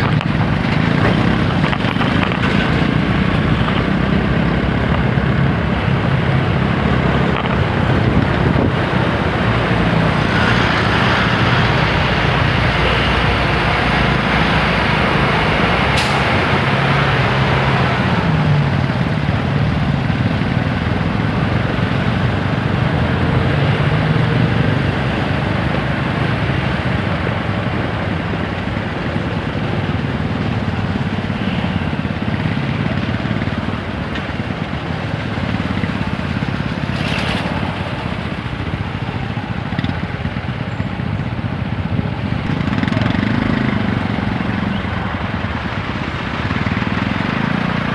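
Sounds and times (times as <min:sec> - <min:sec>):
motorcycle engine running: 0:00.0 - 0:47.9
wind and road noise: 0:00.0 - 0:47.9.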